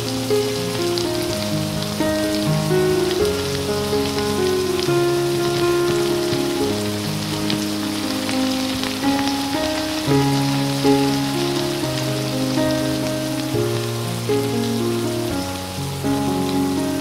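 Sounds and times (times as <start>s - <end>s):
background music: 0.0s - 17.0s
food sizzling in a pan: 0.0s - 17.0s.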